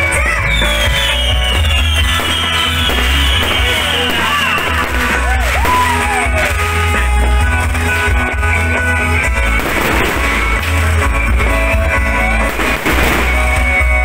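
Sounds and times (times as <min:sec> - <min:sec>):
loud rock music with singing: 0:00.0 - 0:14.0.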